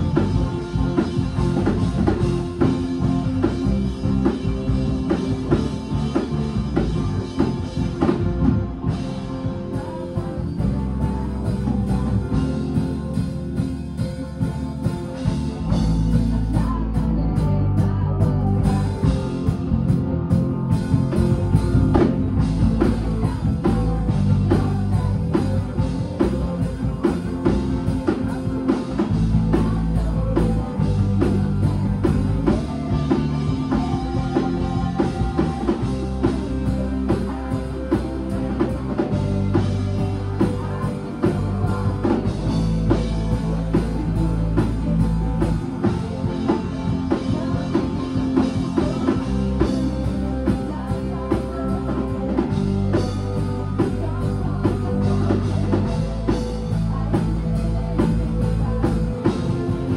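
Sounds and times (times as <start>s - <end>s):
rock music: 0.0s - 59.9s.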